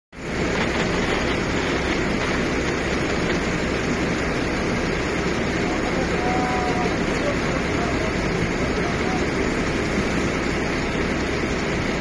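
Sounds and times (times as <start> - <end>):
fire truck engine rumble: 0.1 - 12.0.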